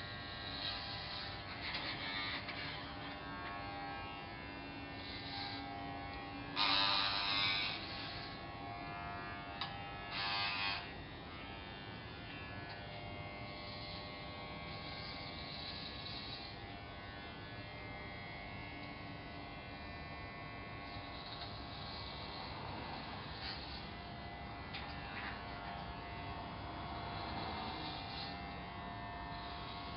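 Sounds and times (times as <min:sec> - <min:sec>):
electric hair clippers buzzing: 0:00.0 - 0:29.9.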